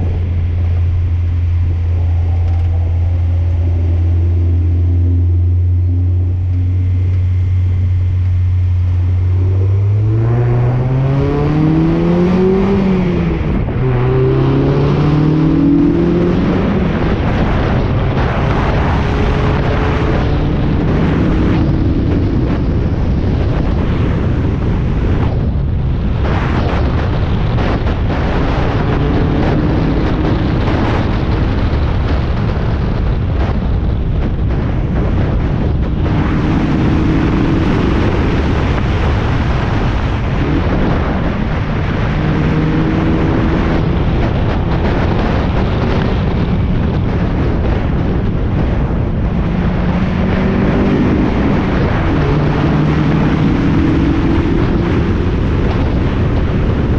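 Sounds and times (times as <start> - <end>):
race car engine running hard: 0.0 - 56.9
wind buffeting microphone: 0.0 - 56.9.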